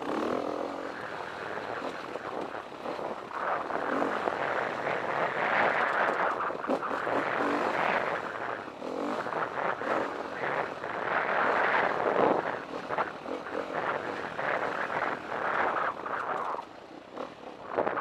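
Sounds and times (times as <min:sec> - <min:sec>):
dirt bike engine revving: 0:00.0 - 0:16.5.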